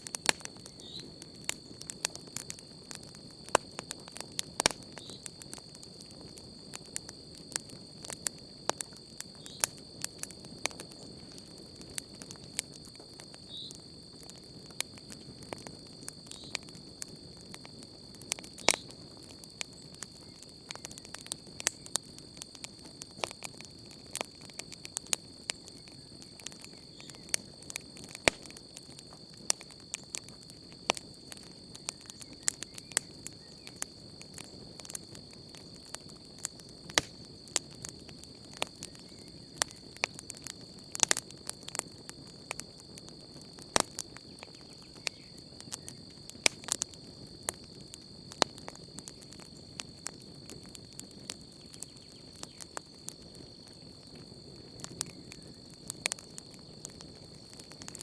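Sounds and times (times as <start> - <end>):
campfire crackling and popping: 0.0 - 58.0
crickets trilling: 0.0 - 58.0.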